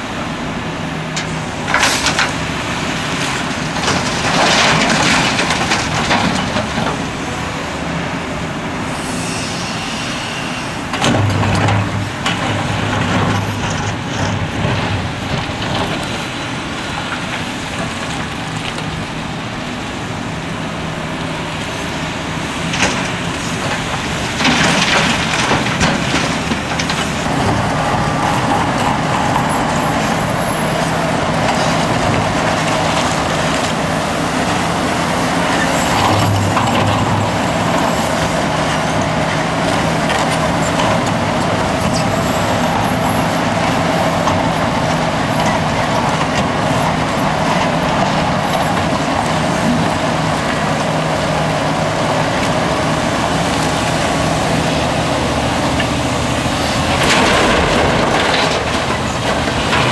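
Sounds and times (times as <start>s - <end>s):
excavator running under load: 0.0s - 59.9s.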